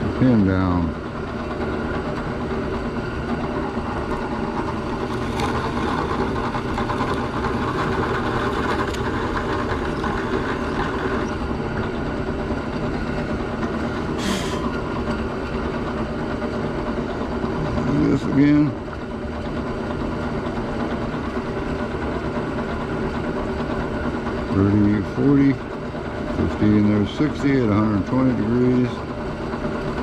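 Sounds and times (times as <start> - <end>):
drill press boring wood: 0.0 - 30.0.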